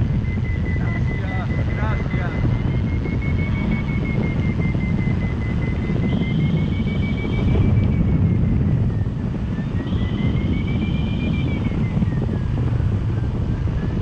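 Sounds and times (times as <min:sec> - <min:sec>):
variometer beeping: 0:00.0 - 0:14.0
wind rushing over microphone: 0:00.0 - 0:14.0.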